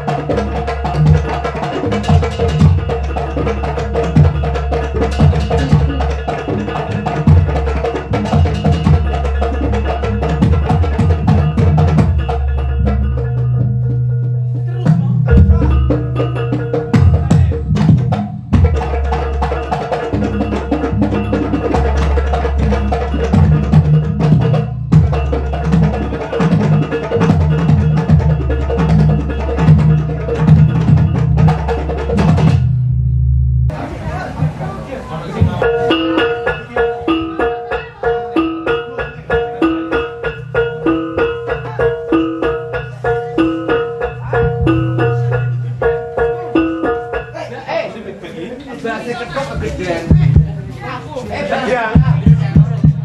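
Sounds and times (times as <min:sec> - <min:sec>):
hand drums fast rhythm: 0:00.0 - 0:32.8, 0:35.4 - 0:47.5, 0:49.6 - 0:53.0
tuned percussion melody: 0:00.0 - 0:33.8, 0:35.4 - 0:47.9, 0:49.3 - 0:53.0.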